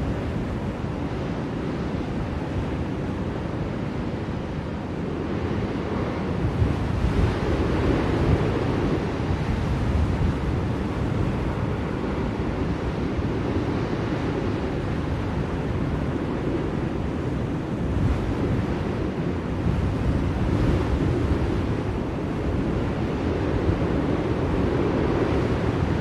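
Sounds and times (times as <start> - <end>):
blizzard wind blowing: 0.0 - 26.0.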